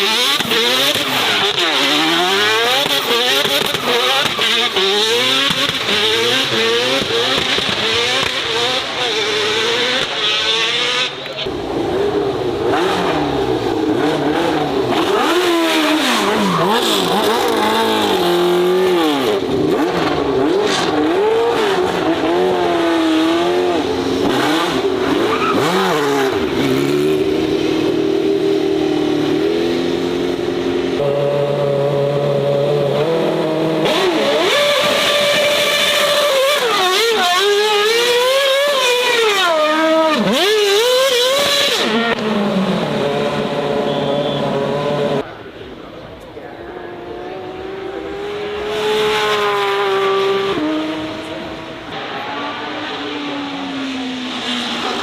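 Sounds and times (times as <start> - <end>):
racing car engines revving: 0.0 - 55.0.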